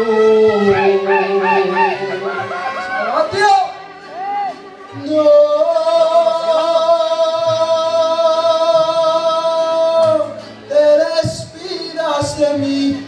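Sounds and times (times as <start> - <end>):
mariachi band playing: 0.0 - 13.0.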